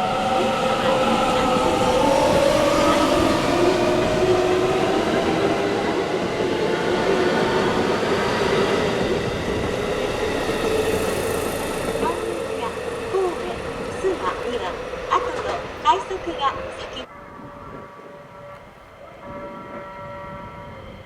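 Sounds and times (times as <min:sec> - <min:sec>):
electric train motor whine: 0:00.0 - 0:21.0
rail running noise: 0:00.0 - 0:21.0.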